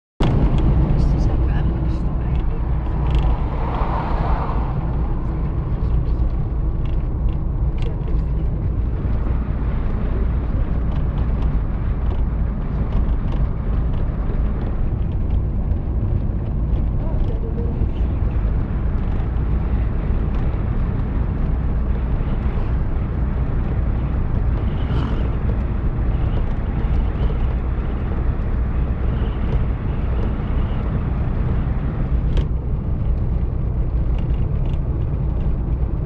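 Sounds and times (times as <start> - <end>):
moving car engine and road noise: 0.2 - 36.0.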